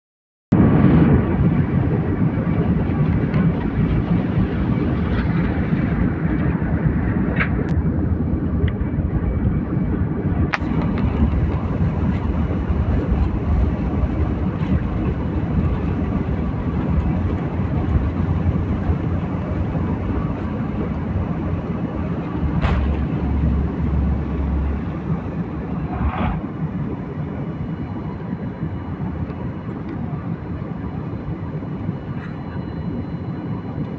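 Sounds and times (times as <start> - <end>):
airplane engine rumble: 0.6 - 33.9.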